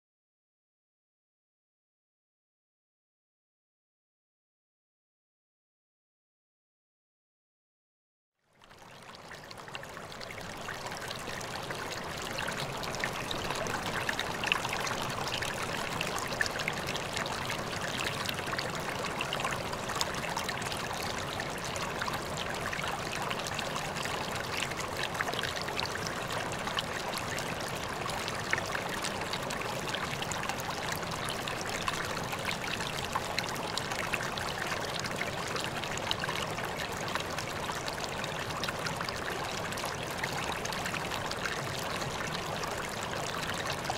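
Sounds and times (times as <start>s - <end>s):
stream babbling: 8.7s - 43.9s.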